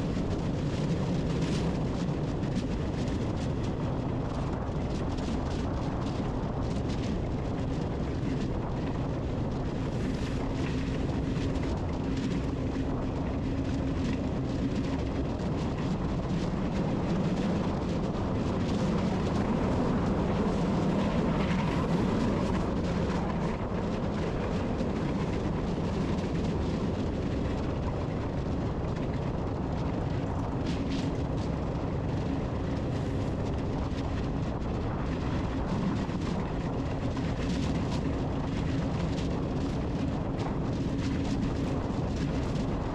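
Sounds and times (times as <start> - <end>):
low mechanical rumble with hum: 0.0 - 42.9.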